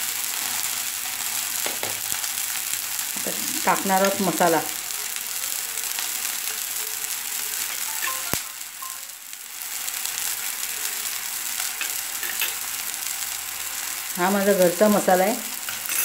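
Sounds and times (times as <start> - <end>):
oil simmering and hissing: 0.0 - 16.0.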